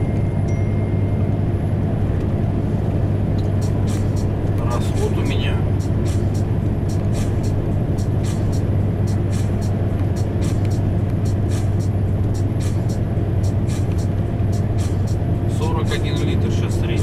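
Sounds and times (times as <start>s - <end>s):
road and tyre noise: 0.0s - 17.0s
truck engine low drone: 0.0s - 17.0s.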